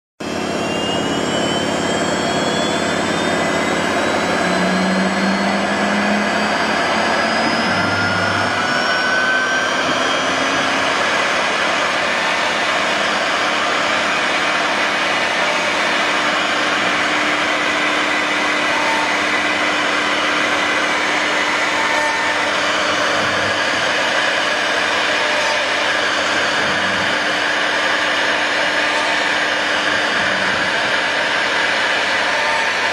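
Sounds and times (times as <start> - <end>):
bit cutting wood rushing noise: 0.2 - 32.9
router spindle whine: 0.2 - 32.9.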